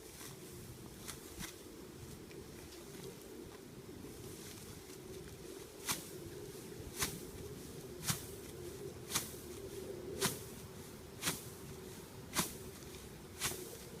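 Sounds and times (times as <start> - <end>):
footsteps crunching on stalks: 0.0 - 14.0.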